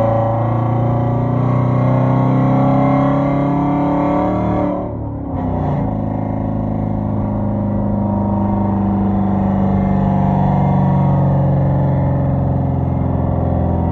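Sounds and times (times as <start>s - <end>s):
car exhaust droning loudly: 0.0s - 13.9s.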